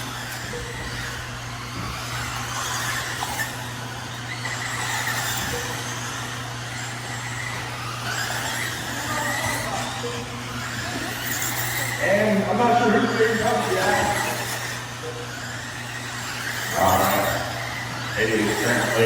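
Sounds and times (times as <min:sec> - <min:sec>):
electric rc car motors whining: 0:00.0 - 0:19.0.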